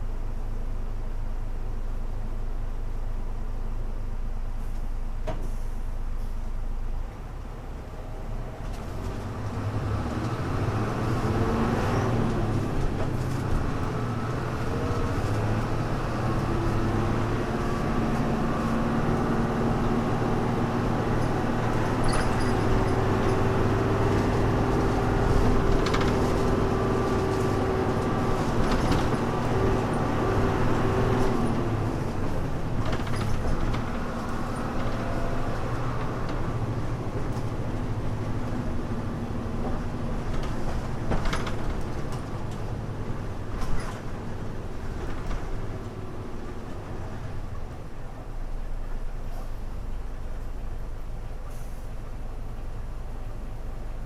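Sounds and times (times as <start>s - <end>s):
bus engine under load: 0.0s - 54.0s.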